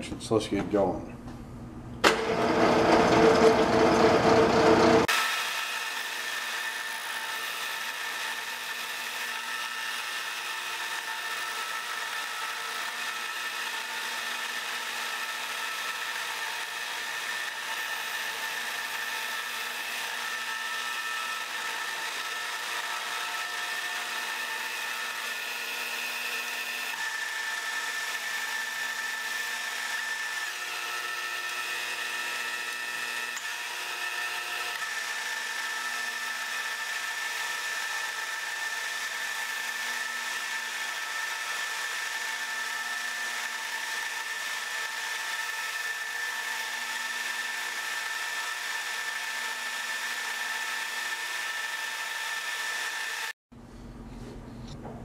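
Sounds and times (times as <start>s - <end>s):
metal lathe whine: 2.1s - 53.4s.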